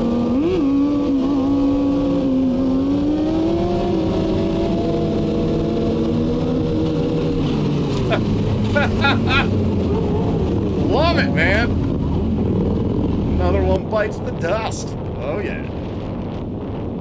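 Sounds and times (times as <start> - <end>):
motorcycle engines revving: 0.0 - 16.8.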